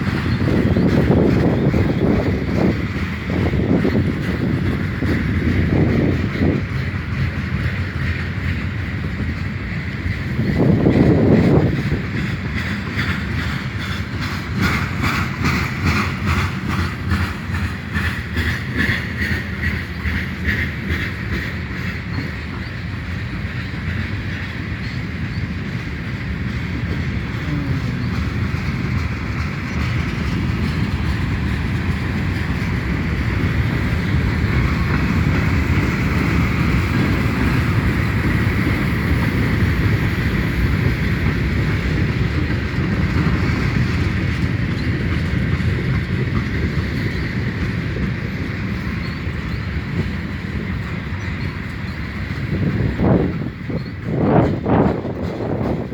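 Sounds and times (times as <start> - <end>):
freight train rumbling by: 0.0 - 55.9
wheels clicking over rail joints: 0.0 - 55.9.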